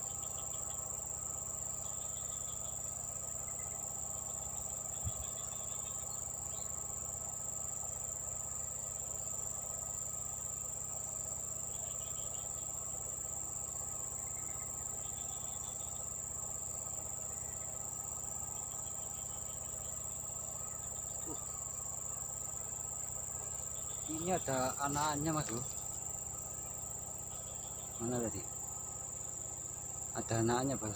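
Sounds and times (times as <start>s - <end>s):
insects trilling: 0.0s - 30.9s
low steady hum: 0.0s - 30.9s.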